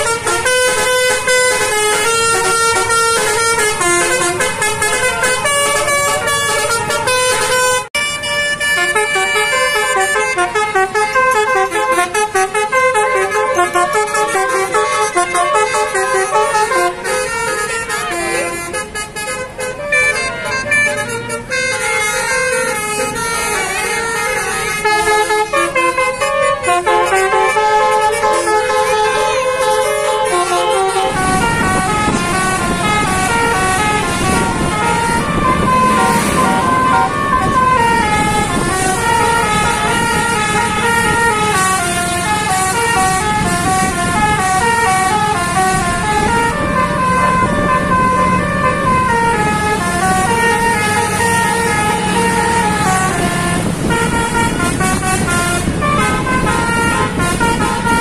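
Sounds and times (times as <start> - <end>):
engine hum and road noise: 0.0 - 58.0
musical air horns playing melody: 0.0 - 58.0.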